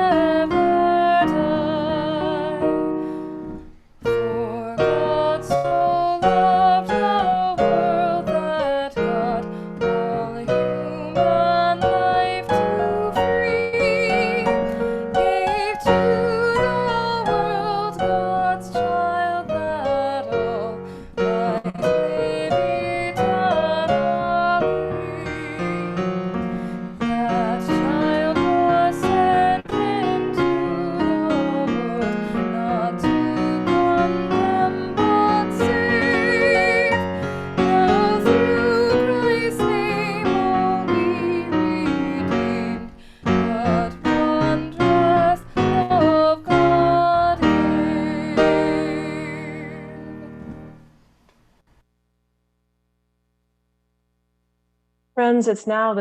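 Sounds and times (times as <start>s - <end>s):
piano accompanied vibrato melody: 0.0s - 50.8s.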